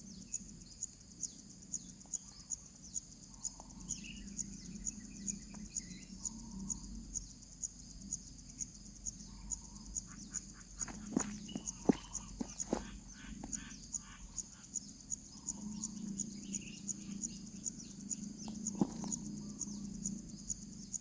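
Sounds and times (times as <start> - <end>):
faint high twittering: 0.0 - 21.0
insect chirping: 0.0 - 21.0.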